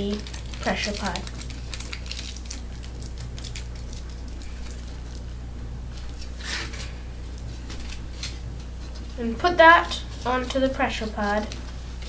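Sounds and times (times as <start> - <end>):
steady low hum: 0.0 - 12.0
tin foil crinkling: 0.0 - 12.0.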